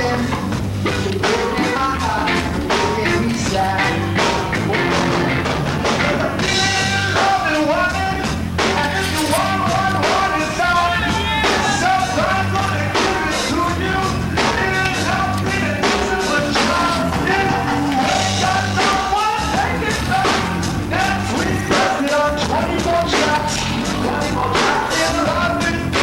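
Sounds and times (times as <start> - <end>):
bass line: 0.0 - 26.0
rock song with singing: 0.0 - 26.0
steady drum beat: 0.0 - 26.0.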